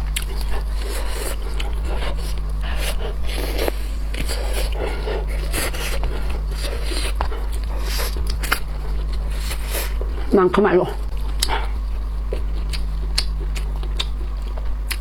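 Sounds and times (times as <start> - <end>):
steady low hum: 0.0 - 15.0
wet chewing of shellfish: 0.0 - 15.0.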